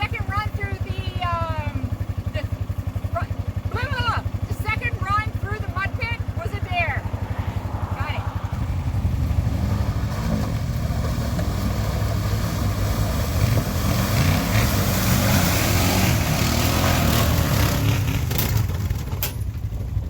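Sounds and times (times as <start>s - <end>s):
engine revving: 1.4s - 19.4s.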